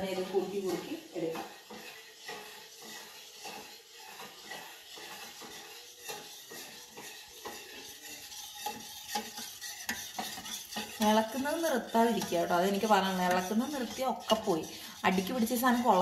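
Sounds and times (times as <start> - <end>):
metal spoon scraping steel pot: 0.0 - 16.0.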